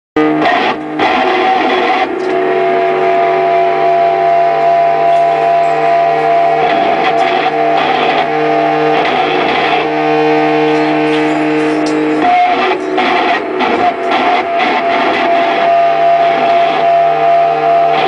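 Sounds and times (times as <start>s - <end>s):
distorted amplified noise: 0.2s - 18.0s
steady droning tones: 0.2s - 18.0s.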